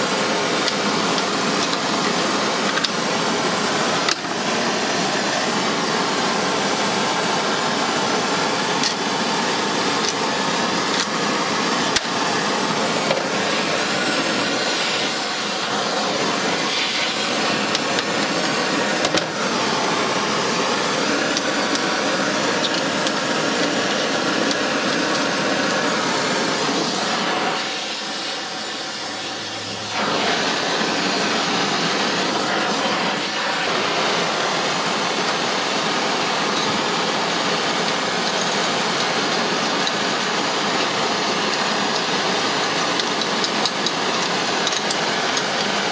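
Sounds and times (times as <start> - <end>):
gas torch flame hissing: 0.0 - 45.9.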